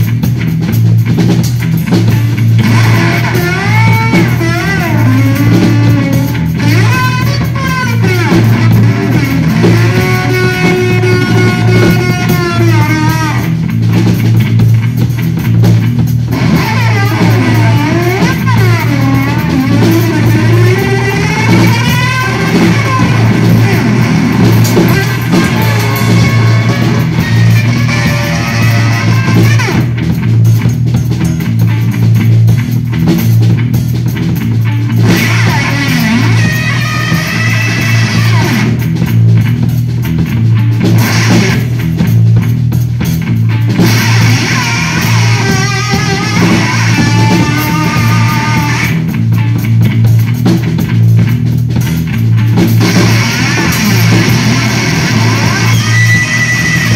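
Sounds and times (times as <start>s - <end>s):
drum kit: 0.0s - 56.9s
electric bass with effects: 0.0s - 56.9s.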